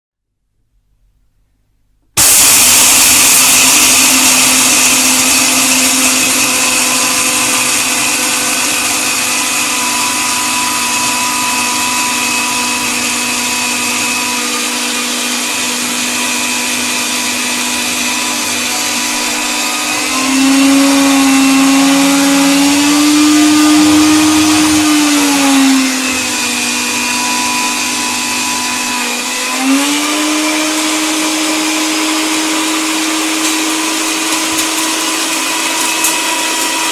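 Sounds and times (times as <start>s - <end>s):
electric coffee grinder motor: 2.2s - 36.9s.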